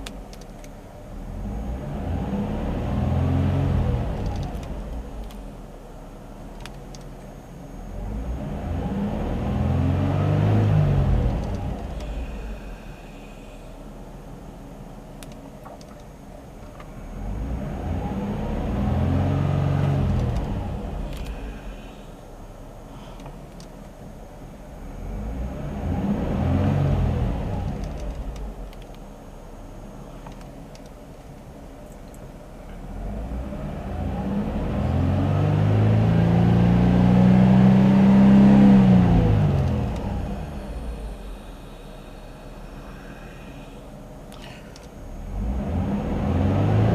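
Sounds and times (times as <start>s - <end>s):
car engine idling and revving: 0.0s - 46.9s.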